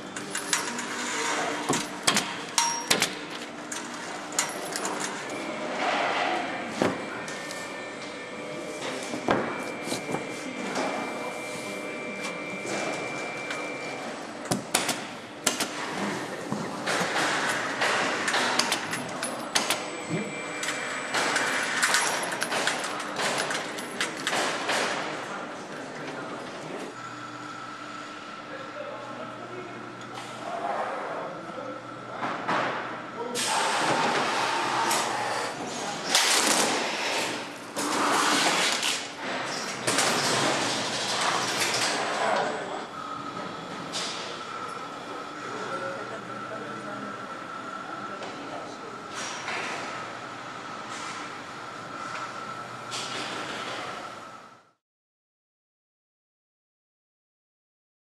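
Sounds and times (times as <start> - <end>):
factory hall noise: 0.0 - 54.6.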